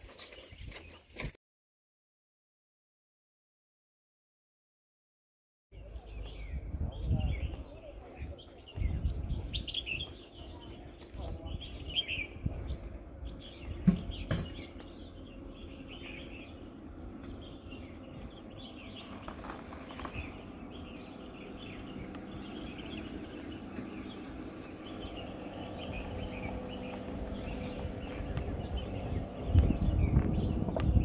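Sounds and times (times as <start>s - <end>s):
small birds chirping: 0.0s - 1.3s, 5.7s - 31.0s
steady low hum: 5.8s - 31.0s.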